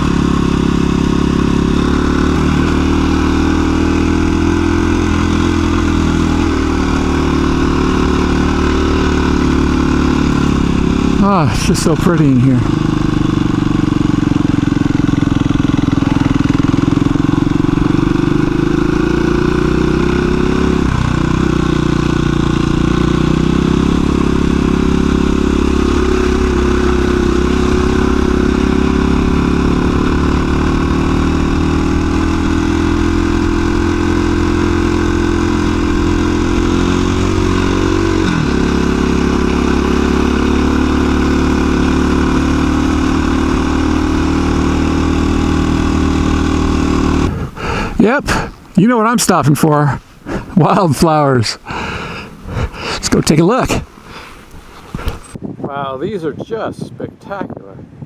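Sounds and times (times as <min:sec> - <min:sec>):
motorcycle engine running: 0:00.0 - 0:55.4.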